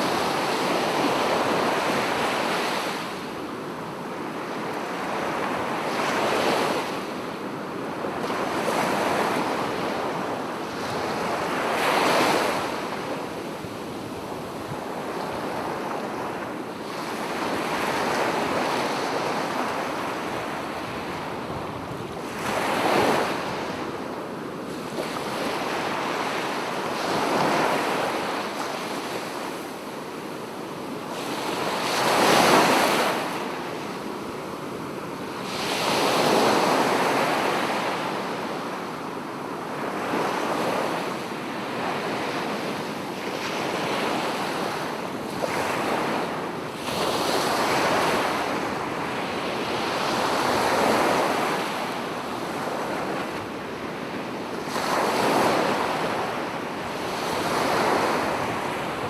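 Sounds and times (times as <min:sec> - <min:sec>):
sea waves breaking on a beach: 0:00.0 - 0:59.0.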